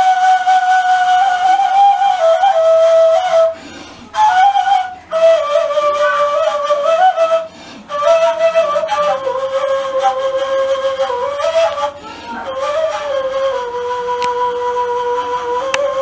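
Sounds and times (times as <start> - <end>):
end-blown flute melody: 0.0 - 16.0.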